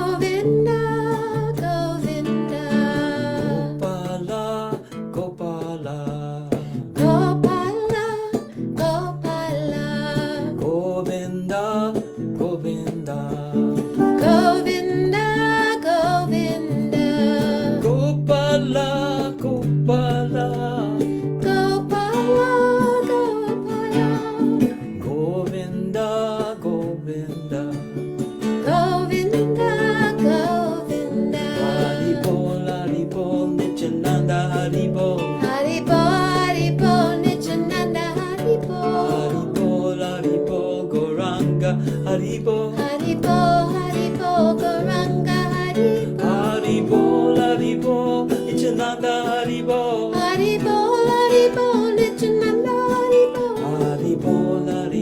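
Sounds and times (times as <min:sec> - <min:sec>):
plucked strings: 0:00.0 - 0:55.0.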